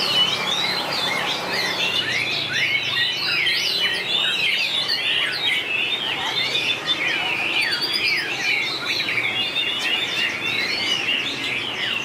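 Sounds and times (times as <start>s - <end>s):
bird singing whistled phrases: 0.0s - 12.0s.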